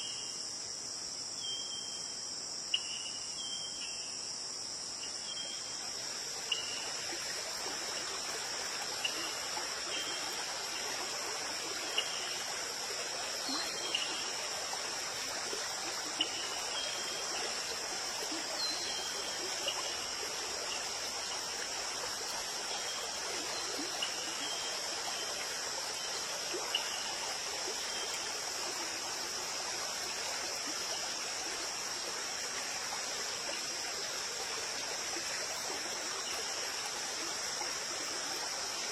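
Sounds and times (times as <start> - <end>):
crickets trilling: 0.0 - 38.9
stream water flowing: 0.0 - 38.9.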